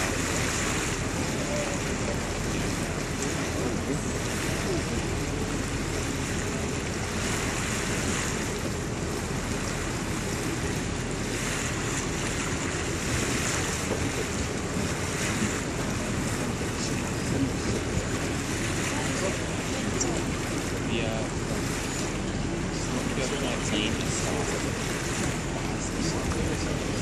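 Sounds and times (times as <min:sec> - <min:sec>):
low hum of boat: 0:00.0 - 0:27.0
water noise: 0:00.0 - 0:27.0
wind on microphone: 0:00.0 - 0:27.0.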